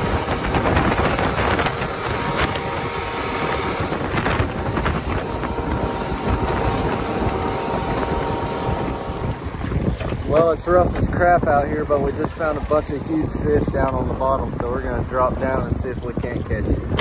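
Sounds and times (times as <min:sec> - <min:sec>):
water slapping hull: 0:00.0 - 0:17.0
water washing against hull: 0:00.0 - 0:17.0
wind buffeting microphone: 0:00.0 - 0:17.0.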